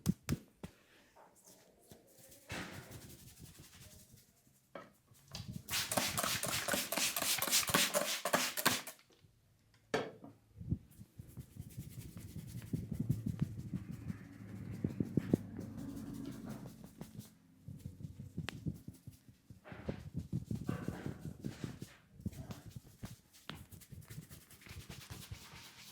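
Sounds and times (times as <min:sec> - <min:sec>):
hands rubbing hair and scalp: 0:01.5 - 0:04.4, 0:05.4 - 0:09.0, 0:10.9 - 0:25.9.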